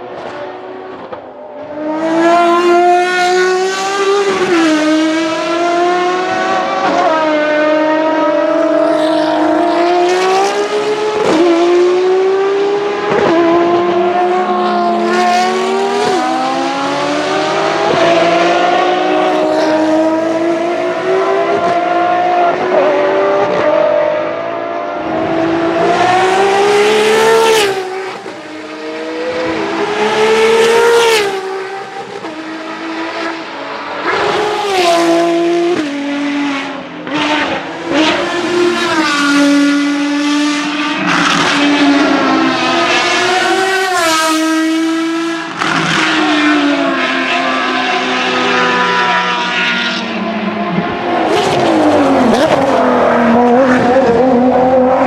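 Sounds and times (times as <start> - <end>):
race car engines at speed: 0.0 - 55.0.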